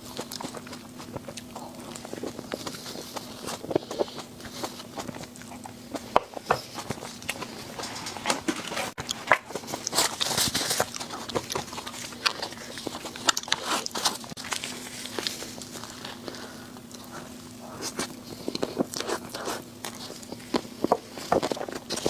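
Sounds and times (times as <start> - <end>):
chewing and crunching: 0.0 - 22.0
faint steady hum: 0.0 - 22.0.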